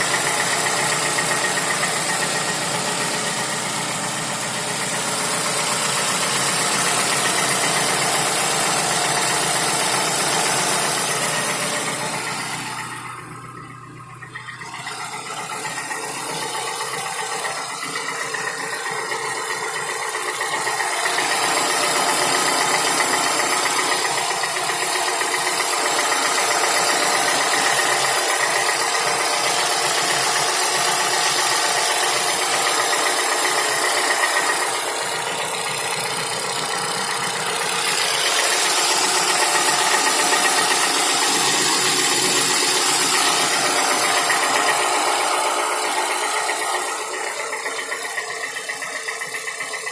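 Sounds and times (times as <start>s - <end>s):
car engine knocking: 0.0s - 49.9s.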